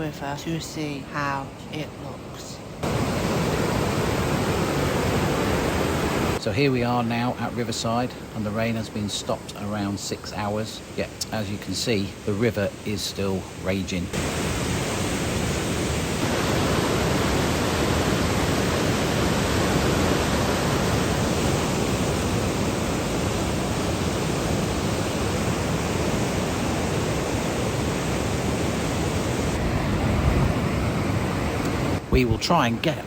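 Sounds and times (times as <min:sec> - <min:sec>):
river rushing in flood: 0:00.0 - 0:33.0.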